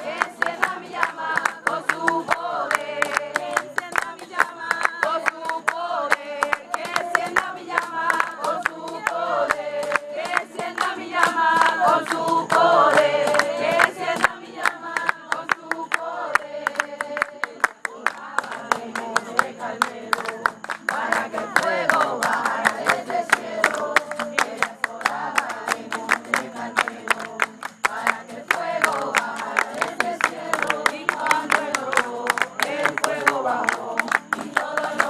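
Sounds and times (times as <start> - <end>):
group singing in chorus: 0.0 - 35.0
people clapping in rhythm: 0.0 - 35.0.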